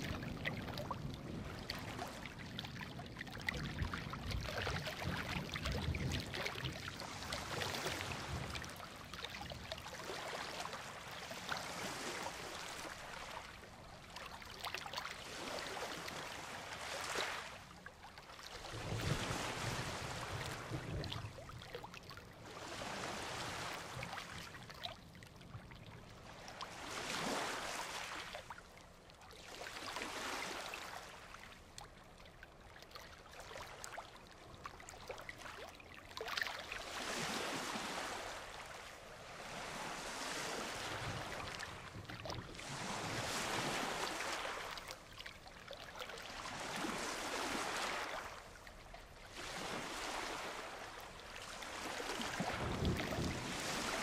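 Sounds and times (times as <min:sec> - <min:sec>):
ocean waves breaking on beach: 0:00.0 - 0:17.8, 0:18.4 - 0:25.1, 0:26.0 - 0:28.6, 0:29.4 - 0:31.4, 0:36.5 - 0:54.0.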